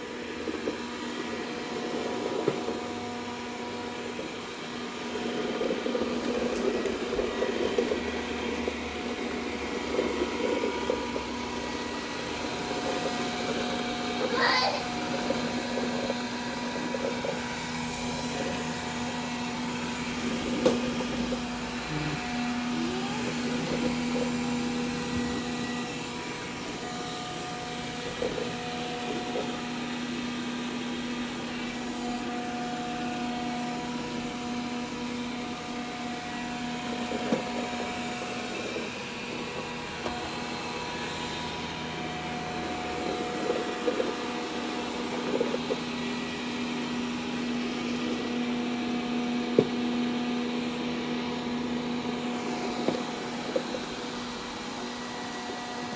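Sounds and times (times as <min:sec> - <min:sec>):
robot vacuum motor hum: 0:00.0 - 0:55.9.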